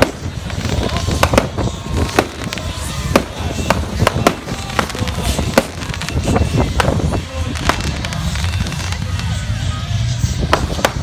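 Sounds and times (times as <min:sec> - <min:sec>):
sharp firework bangs: 0:00.0 - 0:09.2, 0:10.4 - 0:11.0.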